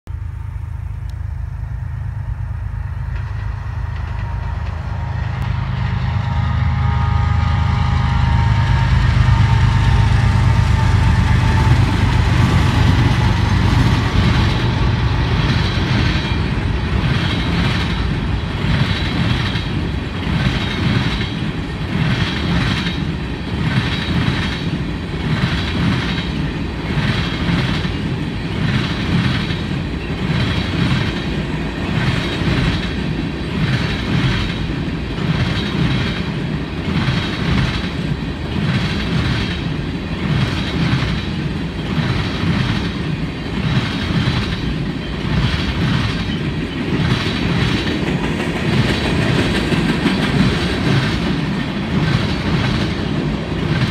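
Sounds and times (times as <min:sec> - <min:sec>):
diesel locomotive rumble: 0:00.1 - 0:53.9
train wheels clicking on rail joints: 0:02.2 - 0:53.9.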